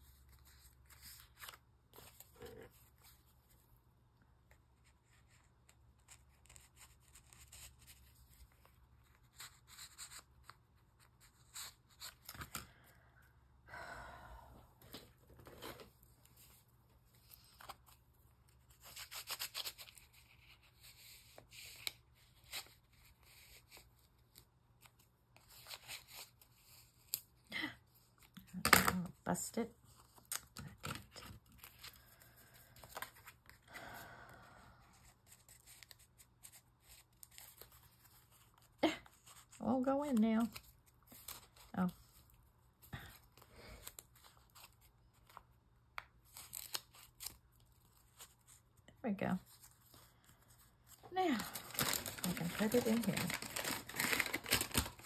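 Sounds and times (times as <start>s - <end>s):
paper and card rustling: 0.0s - 3.7s, 4.7s - 12.6s, 14.9s - 33.9s, 34.9s - 42.4s, 43.0s - 55.0s.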